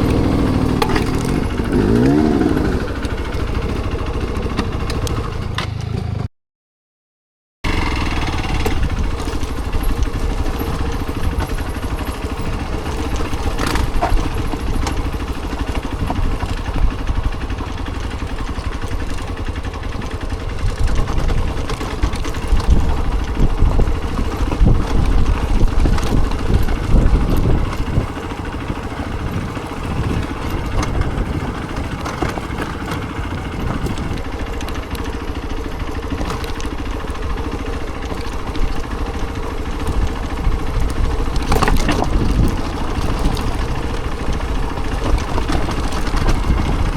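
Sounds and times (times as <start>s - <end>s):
vehicle engine rumbling: 0.0s - 6.3s, 7.7s - 46.9s.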